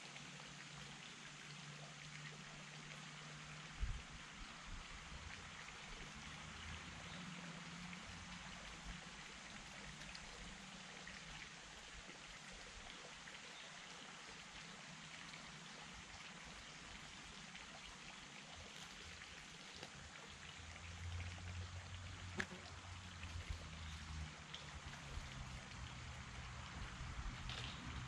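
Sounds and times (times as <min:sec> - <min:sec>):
running water hiss: 0:00.0 - 0:28.0.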